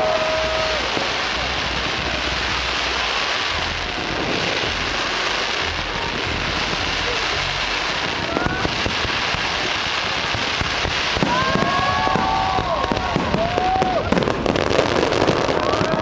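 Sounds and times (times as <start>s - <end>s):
fireworks bursting and crackling: 0.0s - 16.0s
high whistling fireworks: 0.0s - 16.0s.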